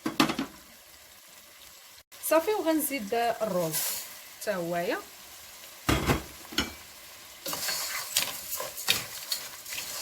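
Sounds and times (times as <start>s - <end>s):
rice sizzling while stirred: 0.0s - 10.0s.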